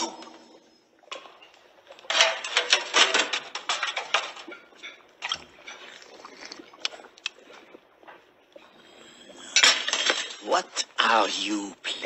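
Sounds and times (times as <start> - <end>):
small liquid sounds: 0.1 - 12.0.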